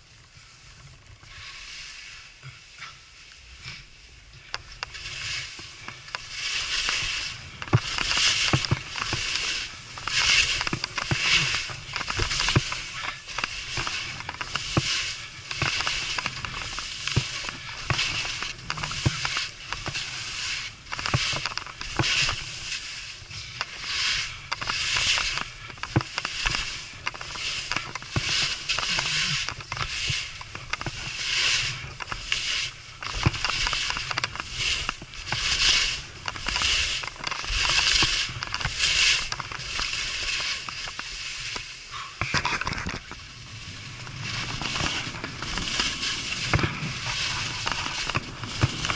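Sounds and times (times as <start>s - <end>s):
skis swishing on snow: 0.0s - 48.9s
wind rumble on microphone: 0.0s - 48.9s.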